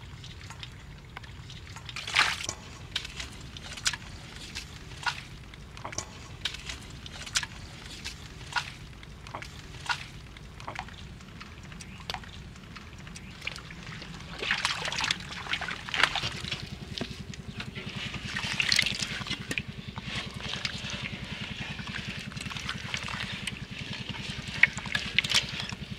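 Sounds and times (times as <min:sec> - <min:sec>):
water splashing and trickling: 0:00.0 - 0:25.9.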